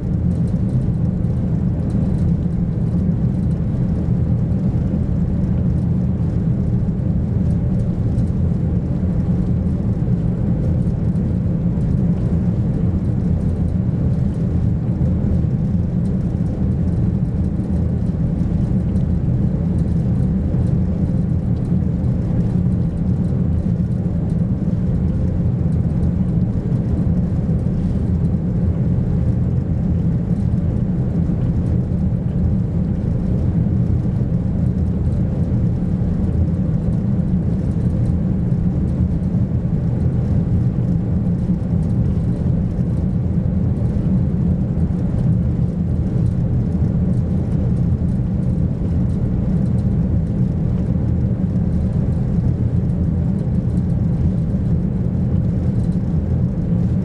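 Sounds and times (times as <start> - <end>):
boat engine drone in cabin: 0.0 - 57.0.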